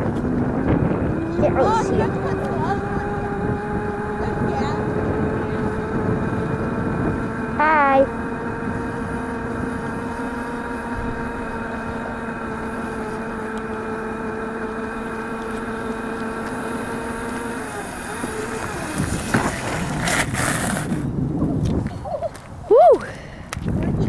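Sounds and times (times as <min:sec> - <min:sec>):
electric dirt bike motor whining: 0:00.0 - 0:22.5
tyres rumbling: 0:00.0 - 0:23.0
wind: 0:00.0 - 0:24.0.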